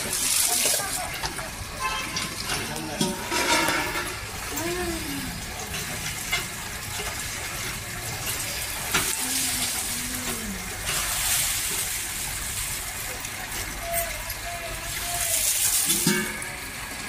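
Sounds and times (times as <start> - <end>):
water pouring and splashing: 0.0 - 17.0.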